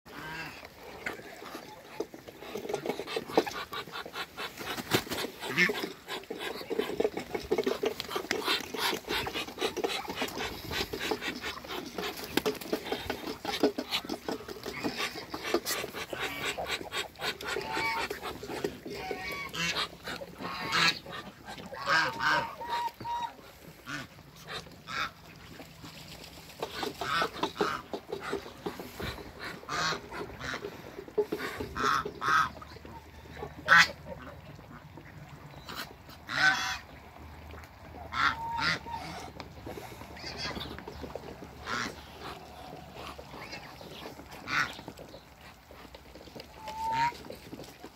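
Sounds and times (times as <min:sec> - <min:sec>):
ducks and geese calling: 0:00.1 - 0:47.9.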